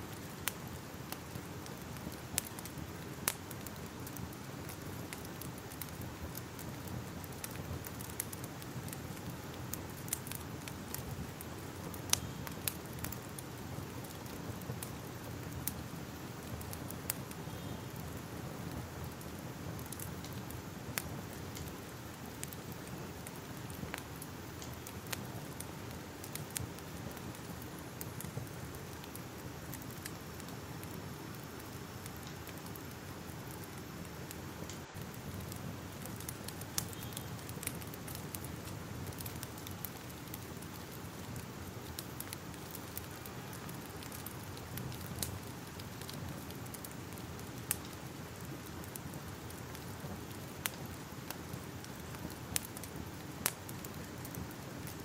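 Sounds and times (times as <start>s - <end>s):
fire crackling: 0.0s - 55.0s
fire pops and snaps: 0.1s - 55.0s.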